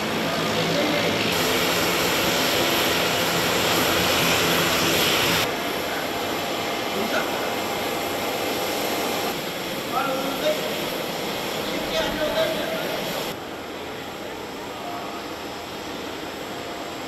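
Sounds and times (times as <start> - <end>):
jet engine rushing: 0.0 - 17.0.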